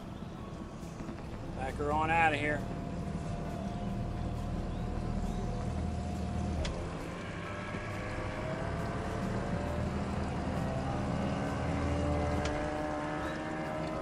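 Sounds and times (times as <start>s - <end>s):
outboard motor running: 1.1s - 14.0s.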